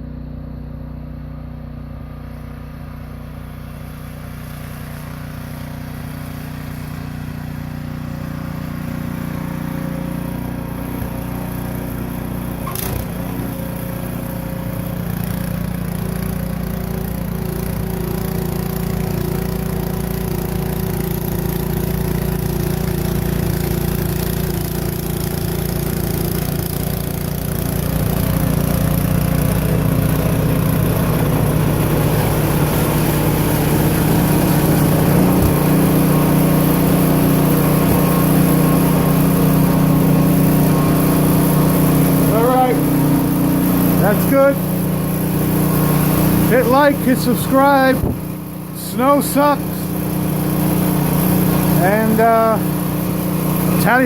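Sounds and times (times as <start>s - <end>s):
snow blower engine running: 0.0s - 54.0s.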